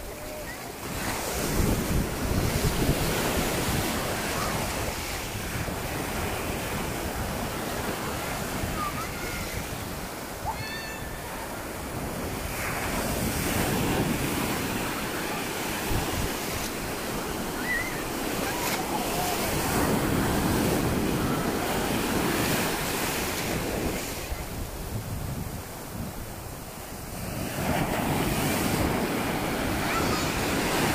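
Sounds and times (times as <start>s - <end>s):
wind buffeting microphone: 0.0s - 10.5s, 11.1s - 30.9s
waves breaking on sand: 0.0s - 30.9s.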